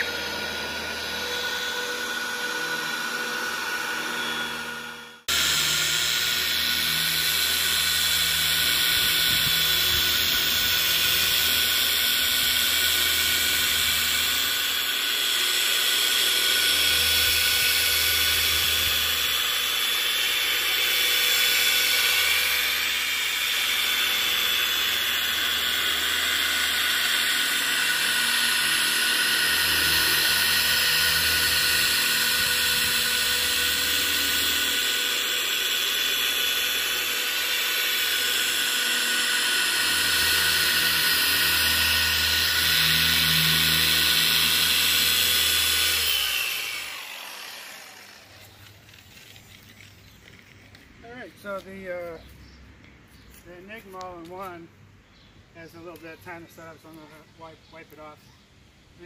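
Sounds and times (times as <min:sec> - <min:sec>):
electric car polisher whining: 0:00.0 - 0:50.8.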